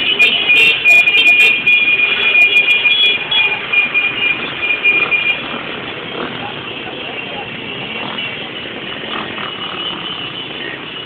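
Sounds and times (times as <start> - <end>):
street and traffic noise: 0.0 - 11.0.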